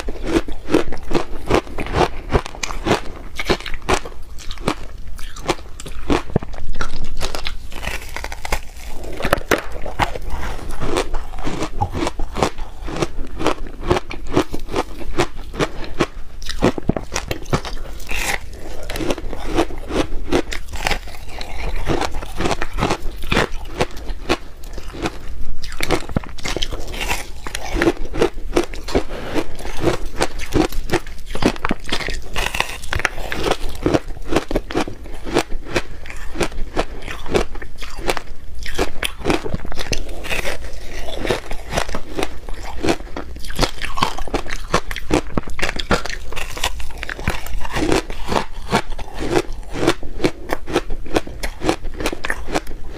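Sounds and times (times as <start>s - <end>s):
teeth crunching ice: 0.0s - 52.9s.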